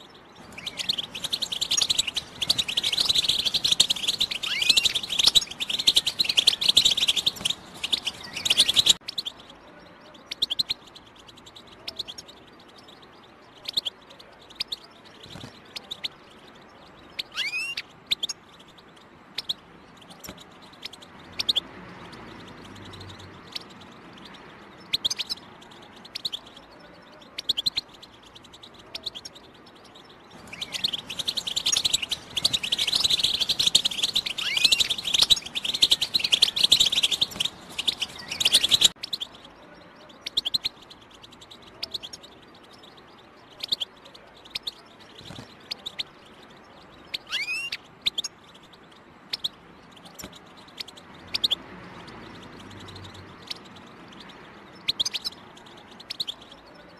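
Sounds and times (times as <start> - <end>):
bird chirps and calls: 0.0 - 56.9
goldfinch twittering song: 0.0 - 56.9.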